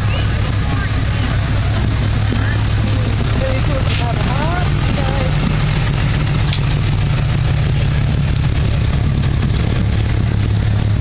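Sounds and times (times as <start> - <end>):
pickup truck engine rumbling: 0.0 - 11.0.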